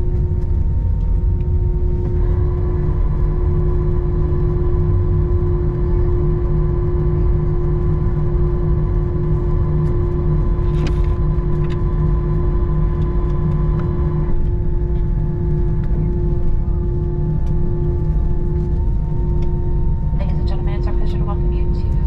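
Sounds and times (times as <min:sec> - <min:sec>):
high whine: 0:00.0 - 0:22.0
jet engine cabin rumble: 0:00.0 - 0:22.0.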